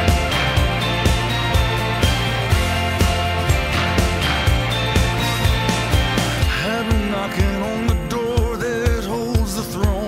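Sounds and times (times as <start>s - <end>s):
wavering melody line: 0.0s - 9.3s
rock drum beat and bass: 0.0s - 10.0s.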